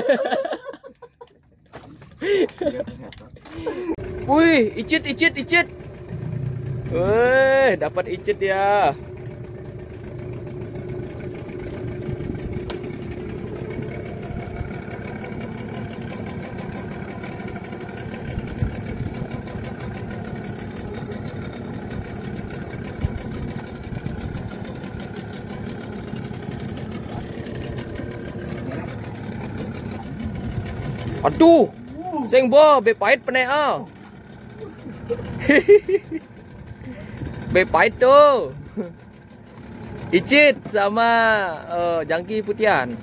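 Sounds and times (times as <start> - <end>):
boat engine idling: 0.0 - 43.0.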